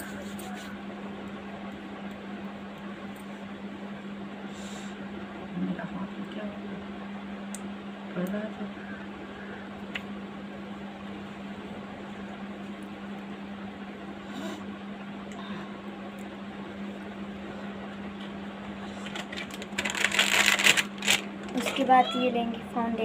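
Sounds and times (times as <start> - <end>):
appliance humming: 0.0 - 23.0.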